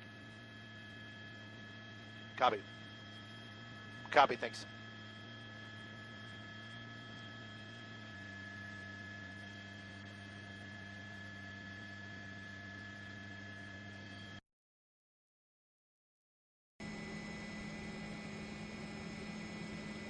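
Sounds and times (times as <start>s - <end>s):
constant whining tones: 0.0s - 14.4s, 16.8s - 20.0s.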